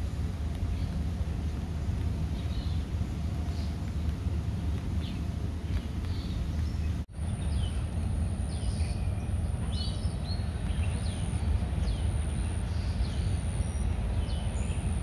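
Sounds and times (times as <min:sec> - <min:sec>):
low traffic rumble: 0:00.0 - 0:15.0
birds chirping: 0:02.0 - 0:15.0.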